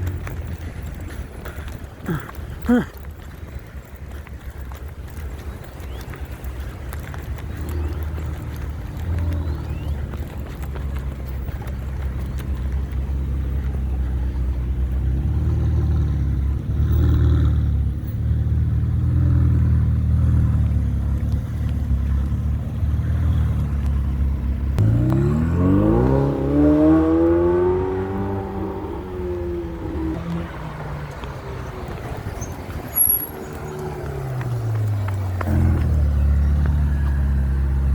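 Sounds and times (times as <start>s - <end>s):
car engine rumbling and revving: 0.0s - 37.9s.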